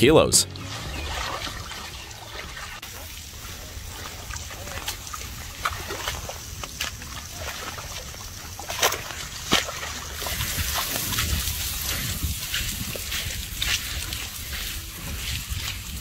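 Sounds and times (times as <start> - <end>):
mud and water sloshing: 0.4 - 16.0
sharp splashes: 0.4 - 16.0.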